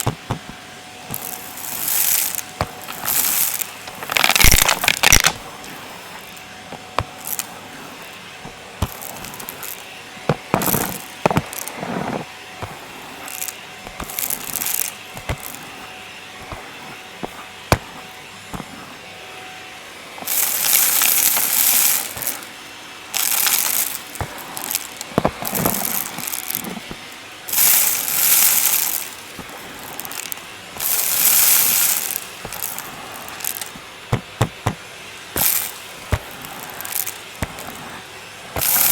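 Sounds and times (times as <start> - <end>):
vacuum cleaner sucking debris: 0.0 - 38.9
loud hissing bursts: 0.9 - 19.1, 20.0 - 38.9.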